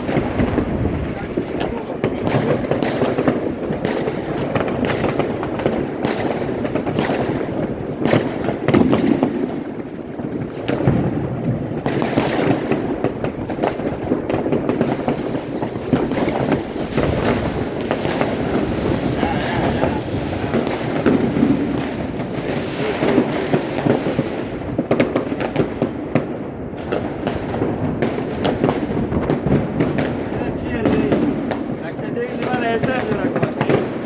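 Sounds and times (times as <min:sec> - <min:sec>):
fireworks and firecrackers banging: 0:00.0 - 0:34.0.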